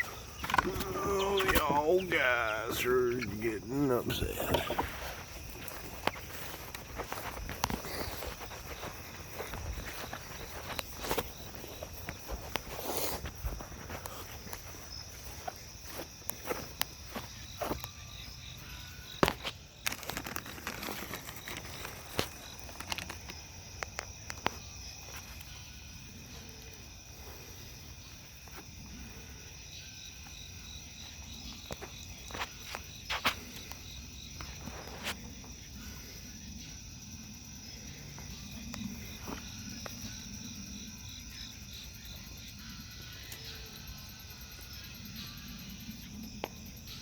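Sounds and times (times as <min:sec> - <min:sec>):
night insects chirping: 0:00.0 - 0:47.0.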